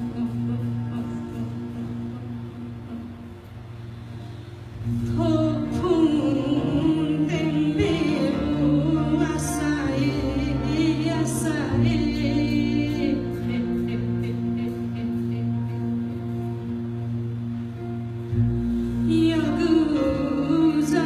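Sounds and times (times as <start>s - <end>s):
woman singing with vibrato: 0.0s - 3.4s, 4.8s - 17.4s, 19.0s - 21.0s
double bass and cello notes: 0.0s - 21.0s.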